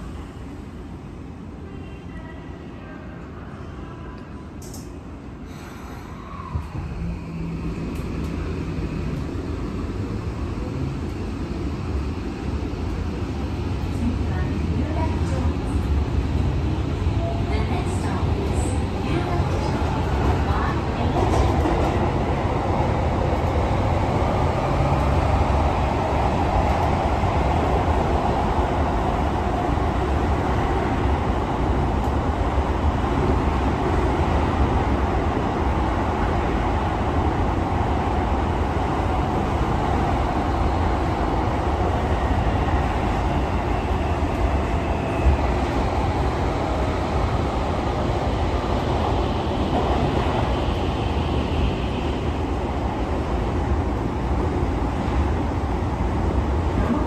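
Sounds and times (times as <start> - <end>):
train wheels rumbling on rail: 4.6 - 57.0.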